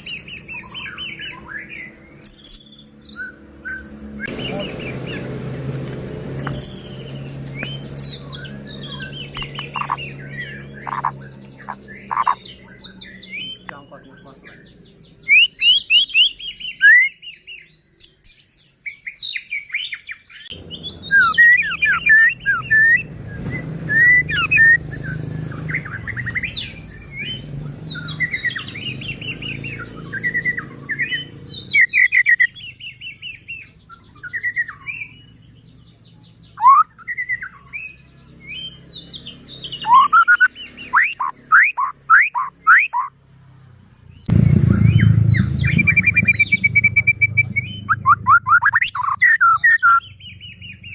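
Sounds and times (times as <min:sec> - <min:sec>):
bird singing whistled song: 0:00.0 - 0:43.1, 0:44.1 - 0:50.9.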